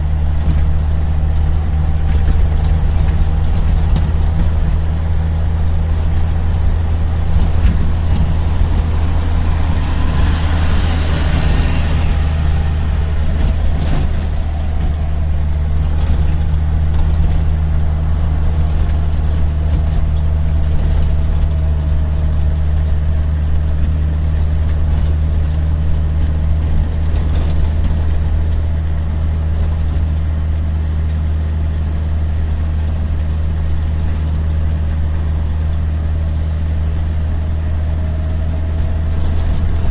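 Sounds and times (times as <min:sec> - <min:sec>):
road noise: 0:00.0 - 0:39.9
vehicle engine drone: 0:00.0 - 0:39.9.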